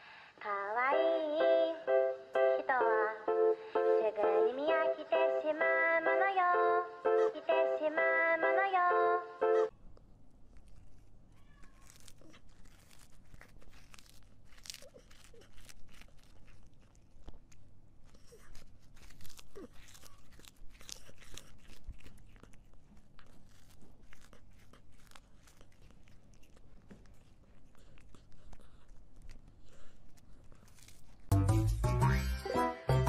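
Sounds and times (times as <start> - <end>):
cat chewing: 2.8 - 32.2.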